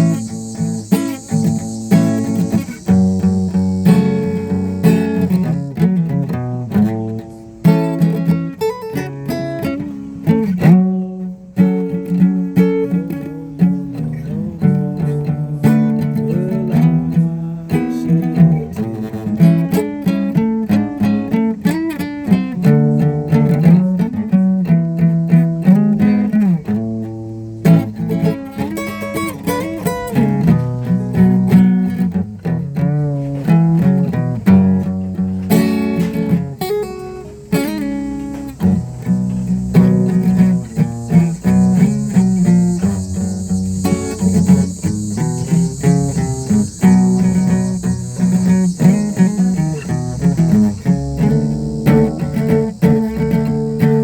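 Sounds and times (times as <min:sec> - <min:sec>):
acoustic guitar chords: 0:00.0 - 0:54.0.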